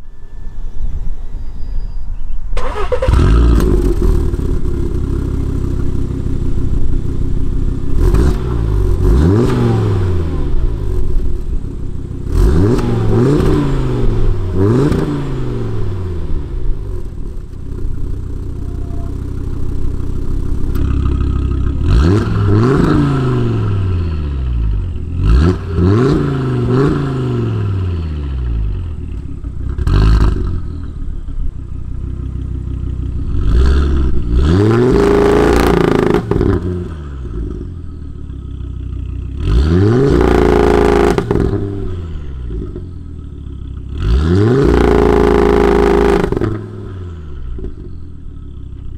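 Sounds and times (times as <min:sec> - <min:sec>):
car engine revving: 0:02.6 - 0:48.9.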